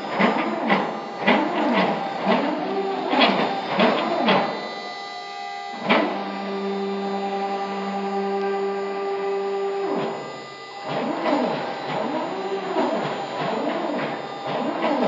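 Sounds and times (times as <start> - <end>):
stepper motor whine: 0.0 - 15.0.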